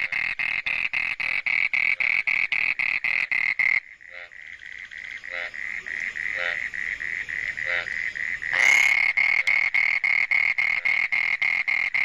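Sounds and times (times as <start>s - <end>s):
frog low croaks: 0.0s - 12.0s.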